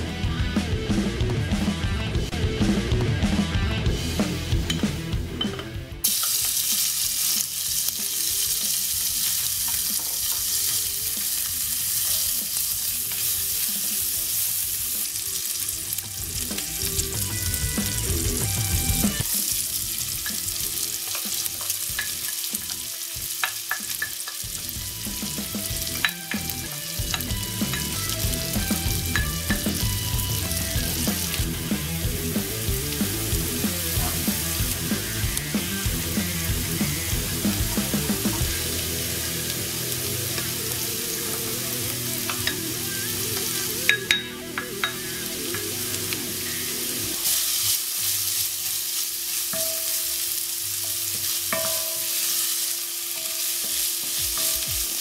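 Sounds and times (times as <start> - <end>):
bacon sizzling in oil: 6.0 - 55.0.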